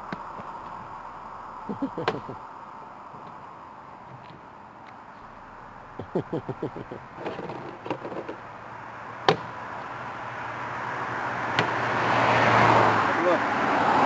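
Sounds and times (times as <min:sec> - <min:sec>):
approaching car: 0:00.0 - 0:14.0.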